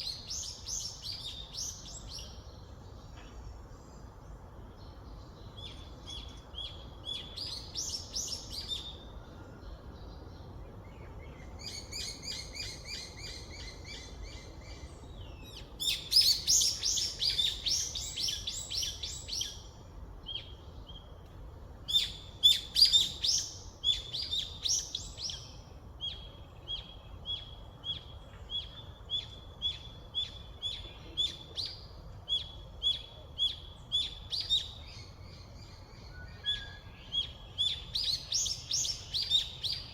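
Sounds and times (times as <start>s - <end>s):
low steady background hiss: 0.0s - 39.9s.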